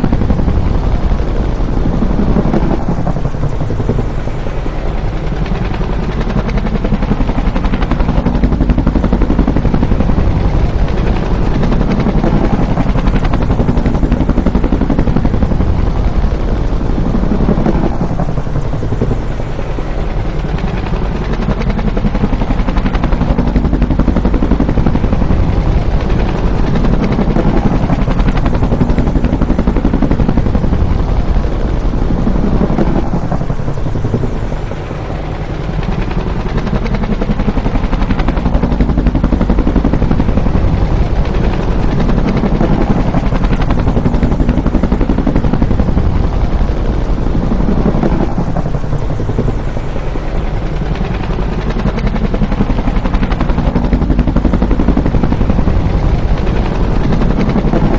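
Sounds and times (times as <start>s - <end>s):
helicopter rotor chop: 0.0s - 57.9s
turbine noise: 0.0s - 57.9s.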